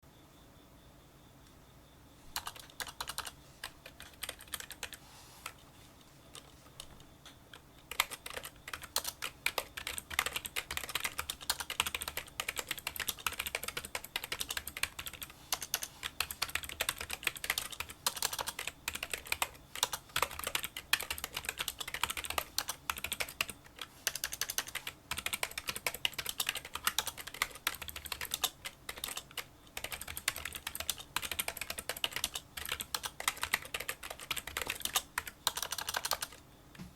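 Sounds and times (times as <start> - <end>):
keyboard typing clicks: 2.4 - 5.0, 6.3 - 36.9.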